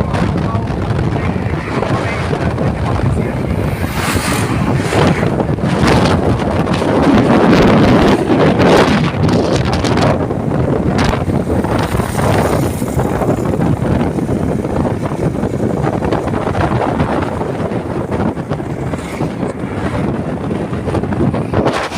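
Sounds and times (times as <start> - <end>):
road noise: 0.0 - 21.9
wind buffeting microphone: 0.0 - 21.9
motorcycle engine: 0.1 - 21.9.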